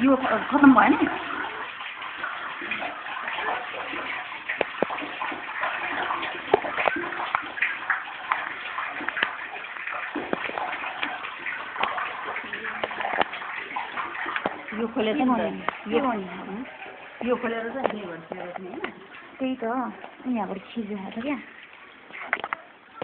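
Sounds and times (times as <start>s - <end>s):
rainwater splashing into well: 0.0s - 23.0s
sharp drips and plinks: 0.0s - 23.0s.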